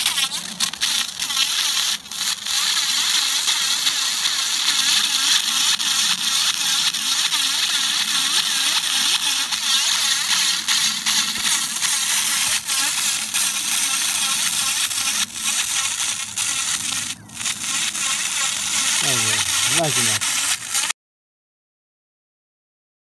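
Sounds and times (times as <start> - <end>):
laser cleaner hissing: 0.0 - 20.9.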